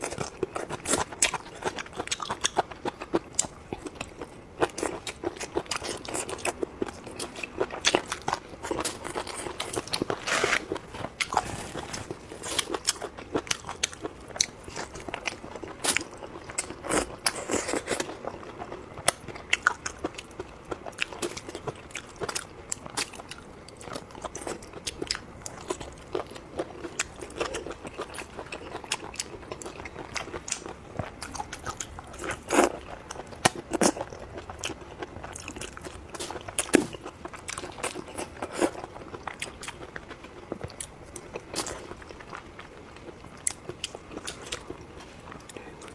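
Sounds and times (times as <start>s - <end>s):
person crunching and chewing: 0.0s - 45.9s.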